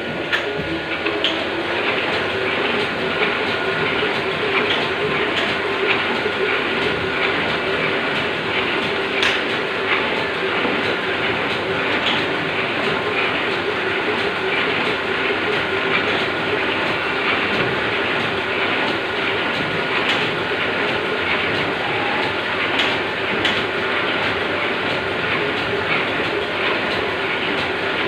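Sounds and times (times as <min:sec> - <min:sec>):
machinery clattering and humming: 0:00.0 - 0:28.0.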